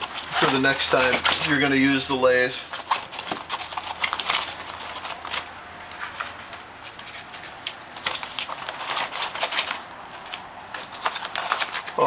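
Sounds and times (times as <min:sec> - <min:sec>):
small tools clicking and rattling: 0:00.0 - 0:12.0.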